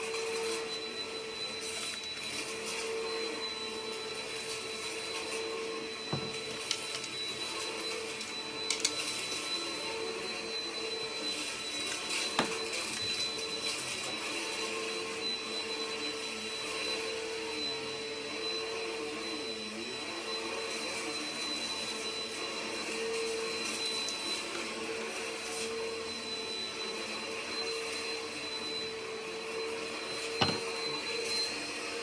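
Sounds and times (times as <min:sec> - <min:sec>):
vacuum cleaner motor whining: 0:00.0 - 0:32.0.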